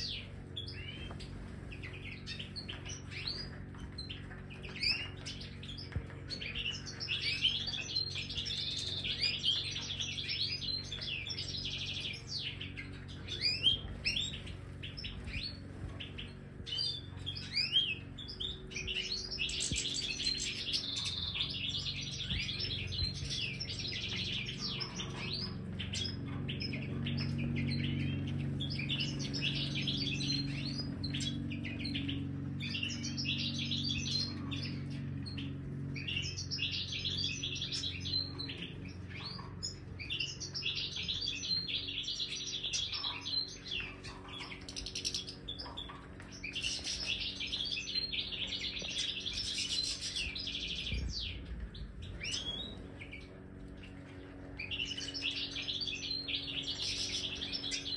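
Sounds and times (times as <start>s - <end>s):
finches twittering: 0.0s - 57.9s
low steady hum: 0.0s - 57.9s.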